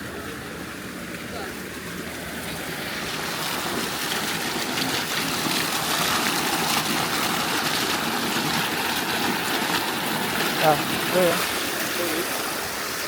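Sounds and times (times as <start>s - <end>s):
spring water rushing and bubbling: 0.0s - 13.0s.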